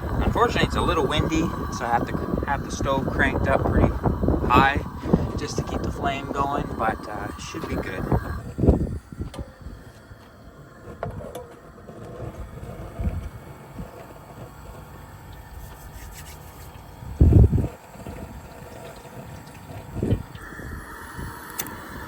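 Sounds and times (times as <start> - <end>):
camp stove burner hissing: 0.0 - 22.0
wind buffeting microphone: 0.0 - 22.0.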